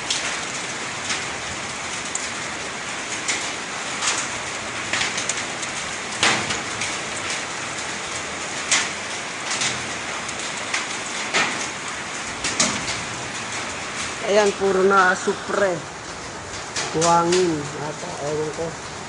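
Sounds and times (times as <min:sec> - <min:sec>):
mud and stones raining down: 0:00.0 - 0:19.0.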